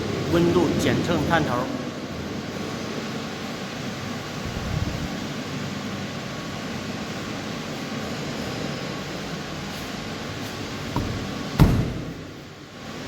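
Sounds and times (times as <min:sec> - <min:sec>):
refrigeration fan noise: 0:00.0 - 0:13.0.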